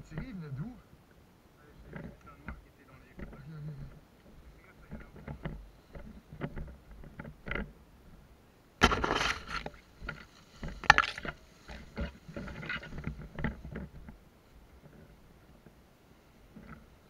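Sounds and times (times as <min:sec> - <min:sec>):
grass and brush rustling: 0:00.0 - 0:17.0.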